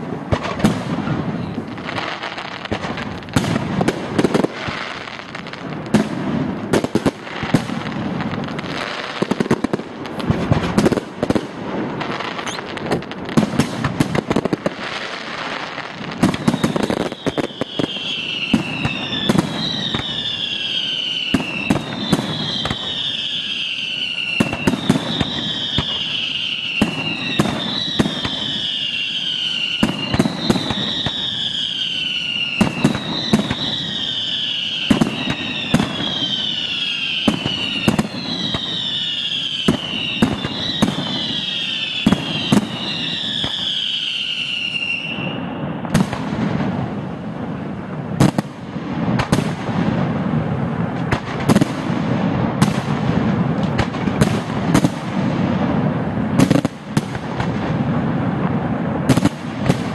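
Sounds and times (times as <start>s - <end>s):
falling firework whistles: 0.0s - 47.2s, 48.2s - 59.9s
fireworks bangs and crackle: 0.0s - 59.9s.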